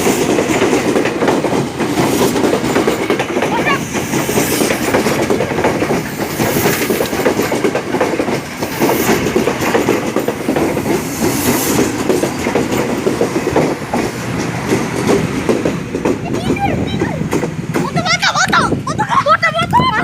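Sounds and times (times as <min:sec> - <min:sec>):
train wheels clacking on rails: 0:00.0 - 0:18.8.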